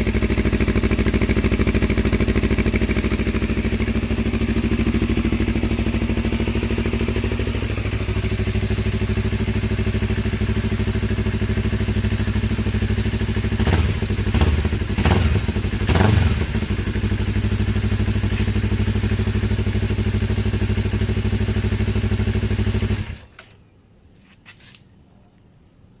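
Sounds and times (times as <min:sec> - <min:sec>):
motorcycle engine idling and revving: 0:00.0 - 0:23.4.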